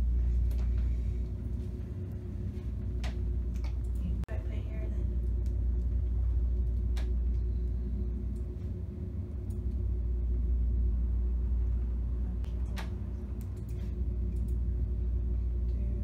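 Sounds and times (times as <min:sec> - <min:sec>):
low rumble and machine hum: 0:00.0 - 0:16.0.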